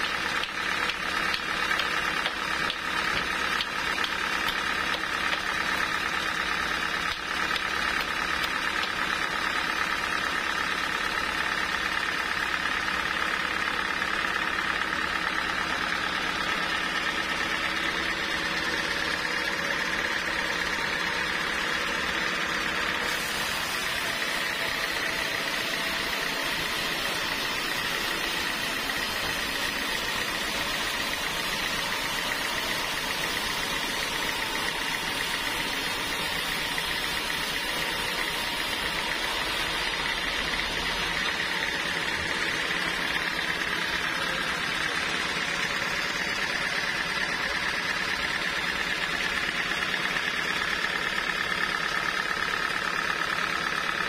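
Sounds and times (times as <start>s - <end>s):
band sawmill sawing a log: 0.0s - 54.0s.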